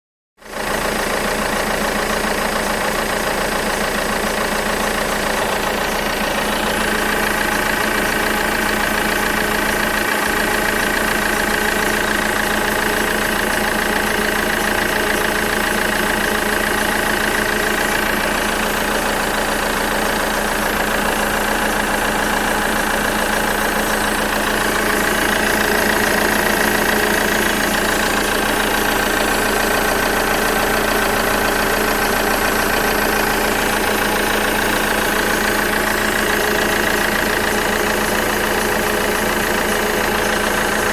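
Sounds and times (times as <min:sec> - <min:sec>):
car engine idling: 0:00.4 - 0:40.9.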